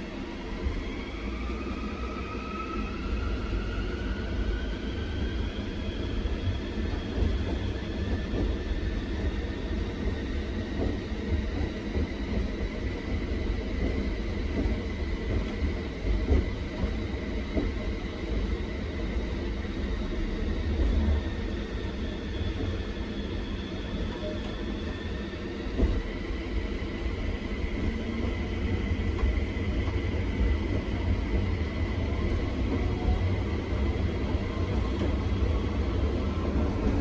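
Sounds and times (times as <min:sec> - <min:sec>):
tram motor whine: 0:00.0 - 0:37.0.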